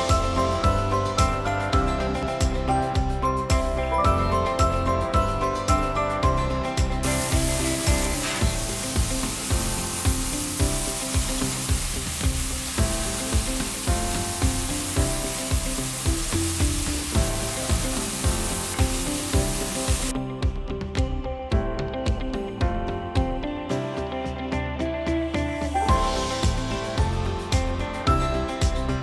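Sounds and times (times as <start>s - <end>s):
background music with beat: 0.0s - 29.0s.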